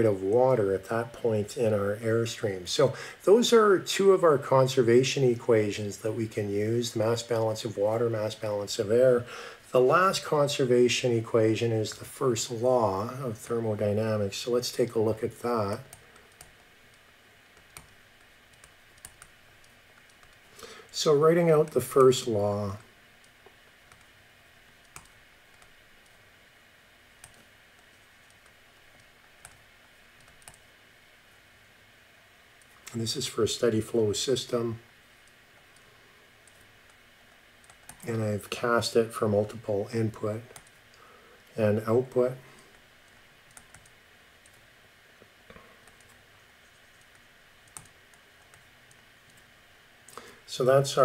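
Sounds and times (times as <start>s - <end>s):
quiet steady hiss: 0.0s - 51.0s.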